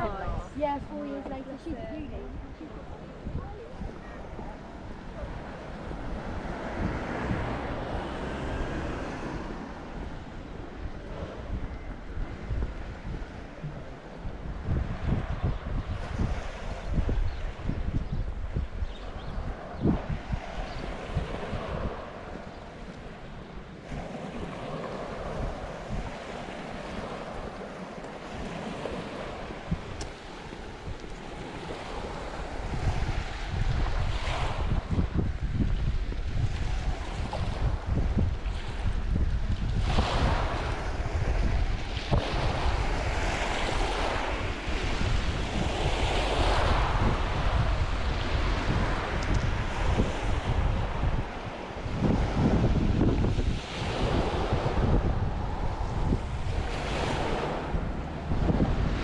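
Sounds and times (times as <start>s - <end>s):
sea waves washing in: 0.0s - 59.0s
wind buffeting microphone: 0.0s - 59.0s.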